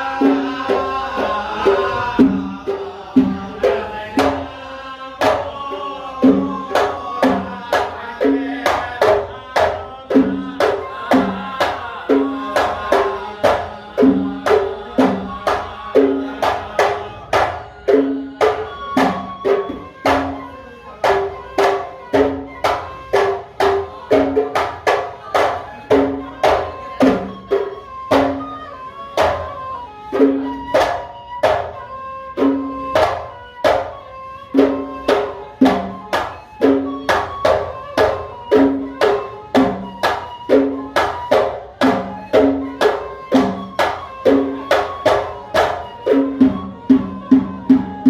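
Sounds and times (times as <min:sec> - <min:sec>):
hand drums beating: 0:00.0 - 0:48.0.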